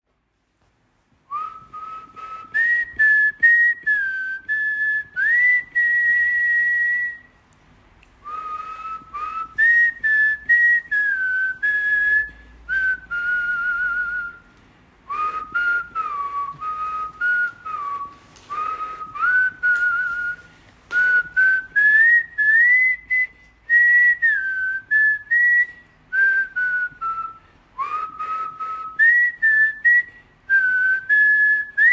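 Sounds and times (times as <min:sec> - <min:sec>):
person whistling a slow melody: 0:01.3 - 0:07.4, 0:08.2 - 0:31.9.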